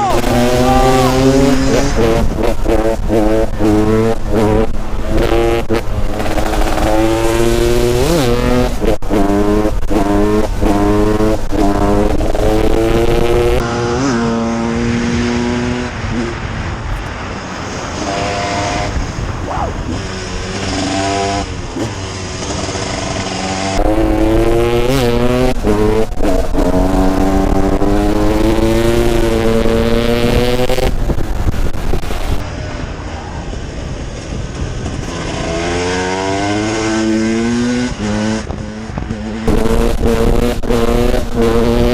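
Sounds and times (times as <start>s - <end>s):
two-stroke engine accelerating: 0.0s - 41.9s.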